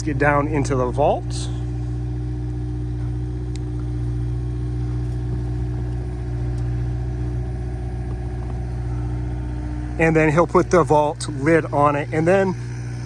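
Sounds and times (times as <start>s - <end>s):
heavy equipment engine humming: 0.0s - 13.0s.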